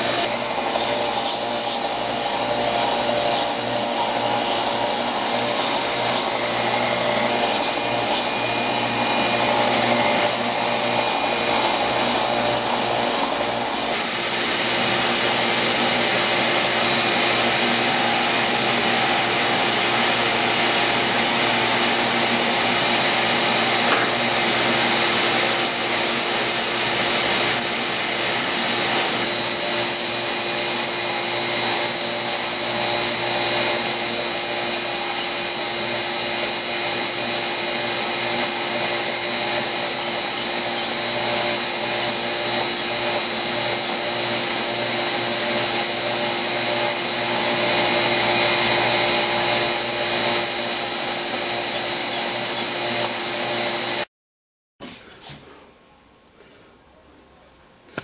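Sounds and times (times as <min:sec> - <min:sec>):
belt sander grinding wood: 0:00.0 - 0:54.1.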